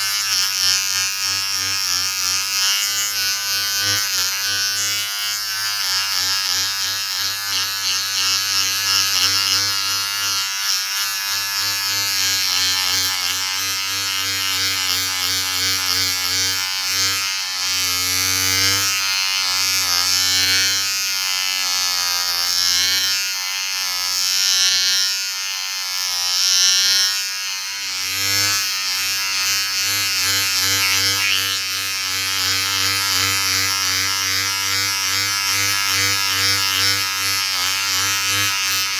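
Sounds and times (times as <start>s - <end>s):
electric shaver buzzing: 0.0s - 38.9s.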